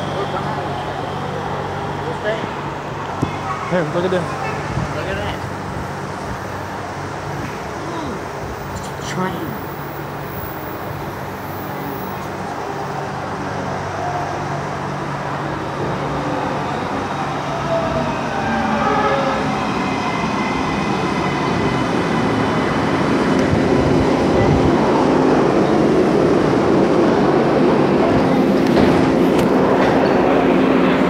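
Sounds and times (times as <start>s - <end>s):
subway train pulling into station: 0.0s - 31.0s.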